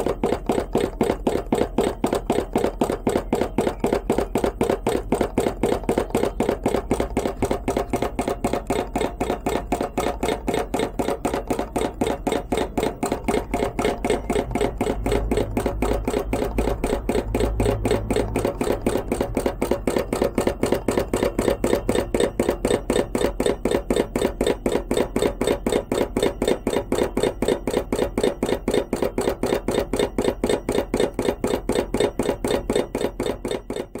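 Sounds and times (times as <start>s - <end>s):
hot-air engine clacking: 0.0s - 34.0s.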